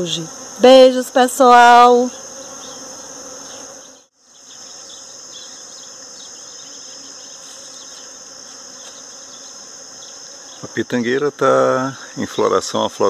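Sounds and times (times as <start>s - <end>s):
bees buzzing: 0.0s - 13.0s
high-pitched insect drone: 0.0s - 13.0s.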